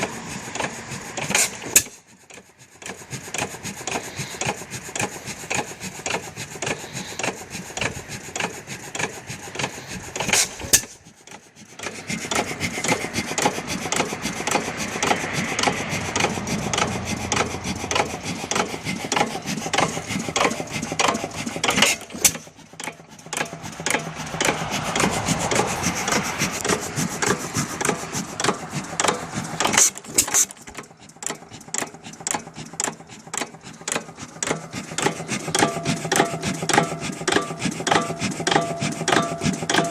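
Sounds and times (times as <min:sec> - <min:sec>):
engine mechanism clattering: 0:00.0 - 0:39.9.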